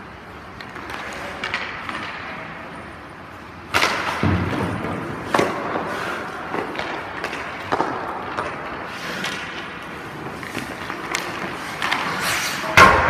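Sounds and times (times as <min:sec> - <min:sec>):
skate blades scraping ice: 0:00.3 - 0:02.8, 0:03.8 - 0:12.8.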